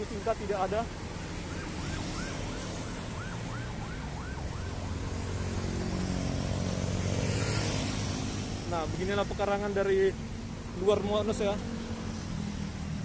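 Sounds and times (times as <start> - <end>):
car and motorbike engines: 0.0 - 13.0.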